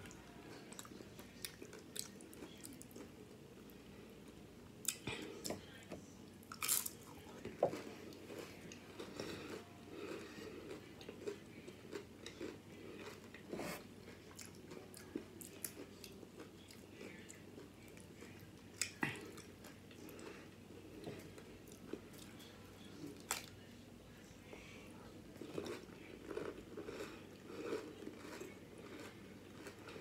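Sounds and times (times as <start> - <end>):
chewing and crunching chips: 0.0 - 5.5, 6.3 - 24.3, 25.2 - 30.0.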